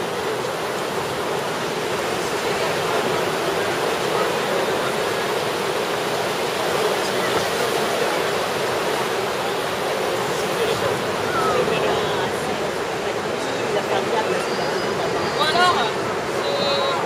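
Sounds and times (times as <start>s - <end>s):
murmur of voices: 0.0s - 17.0s
ocean surf breaking: 0.0s - 17.0s.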